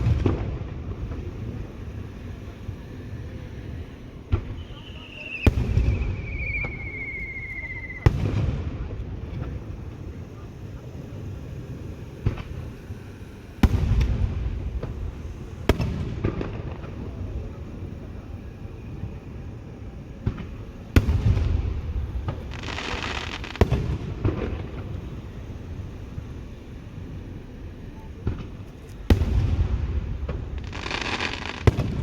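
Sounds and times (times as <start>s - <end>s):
fireworks booming: 0.0s - 32.0s
whistling firework shell: 0.0s - 32.0s.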